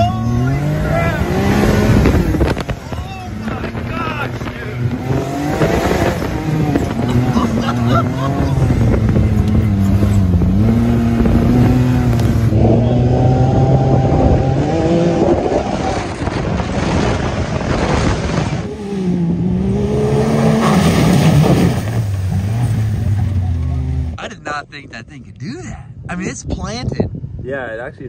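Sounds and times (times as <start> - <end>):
vehicle engine revving: 0.0 - 24.2.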